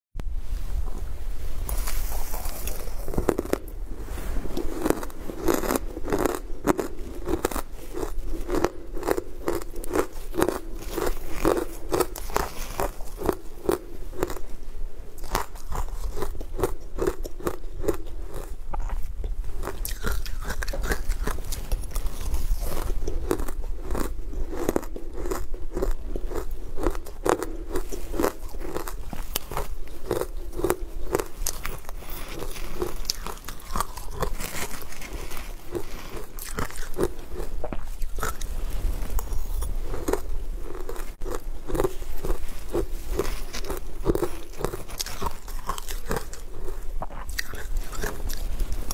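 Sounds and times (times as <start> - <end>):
ice crunching being chewed: 1.7 - 3.8, 4.4 - 48.9.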